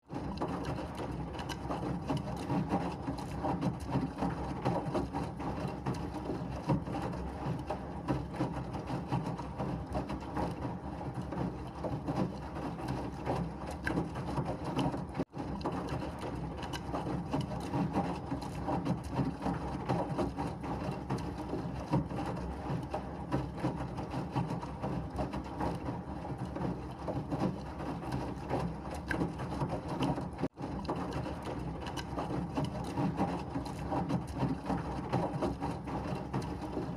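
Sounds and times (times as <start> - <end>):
washing machine churning: 0.0 - 36.9.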